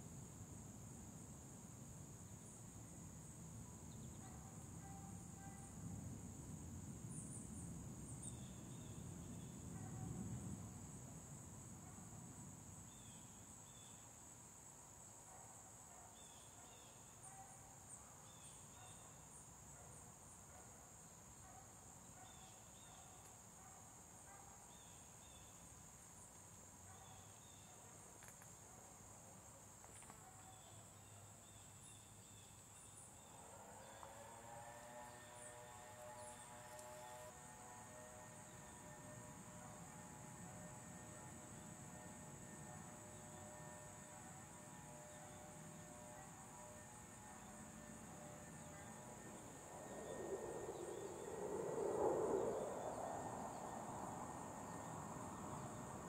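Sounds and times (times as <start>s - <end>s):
insects buzzing: 6.5s - 56.0s.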